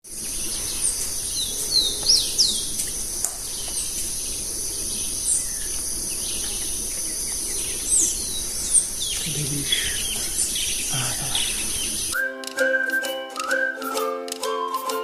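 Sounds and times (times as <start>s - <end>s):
birds chirping: 0.1s - 12.2s.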